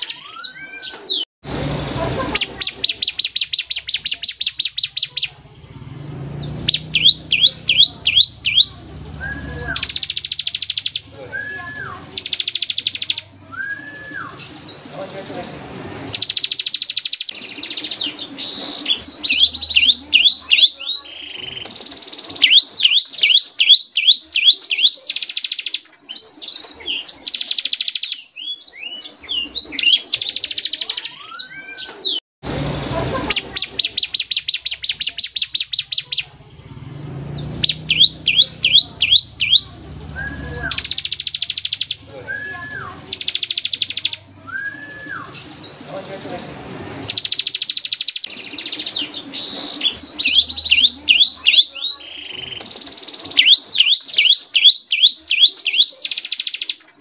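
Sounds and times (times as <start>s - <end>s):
bird song with fast trills: 0.0s - 32.2s, 33.0s - 57.0s.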